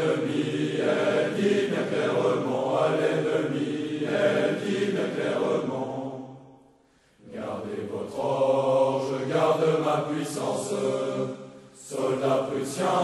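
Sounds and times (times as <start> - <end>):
old recording of sung chanson: 0.0 - 13.0.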